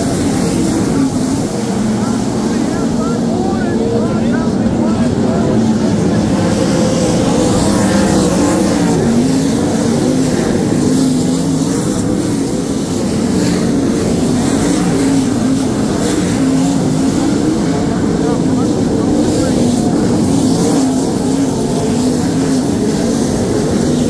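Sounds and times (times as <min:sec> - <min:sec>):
race car engines running hard: 0:00.0 - 0:24.0.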